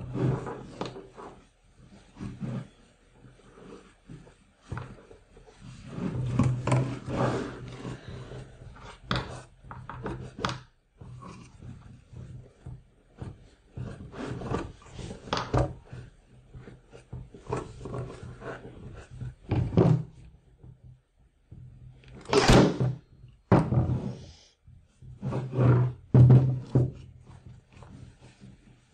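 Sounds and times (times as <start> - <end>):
canvas rustling and scraping: 0.0 - 20.5, 24.9 - 28.9.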